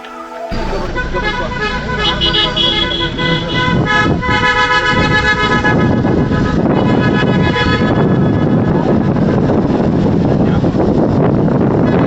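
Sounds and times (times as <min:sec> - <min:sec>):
engine rumbling: 0:00.0 - 0:12.0
horn long steady note: 0:00.0 - 0:12.0
wind noise: 0:00.0 - 0:12.0.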